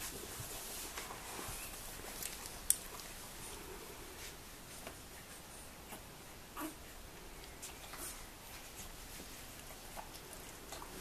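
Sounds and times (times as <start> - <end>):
puppies scuffling on a blanket: 0.0 - 11.0.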